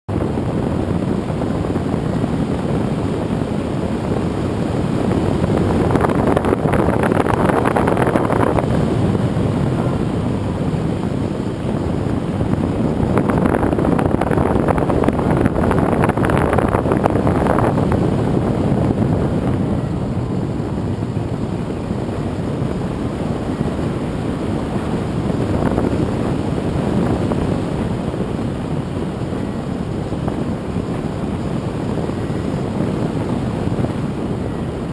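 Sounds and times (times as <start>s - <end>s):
model airplane propeller: 0.1s - 34.9s
wind rushing over microphone: 0.1s - 34.9s.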